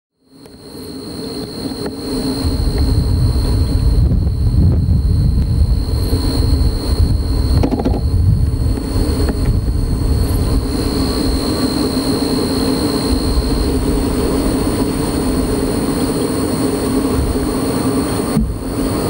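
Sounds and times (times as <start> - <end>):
jet engines roaring with high whine: 0.2 - 19.0.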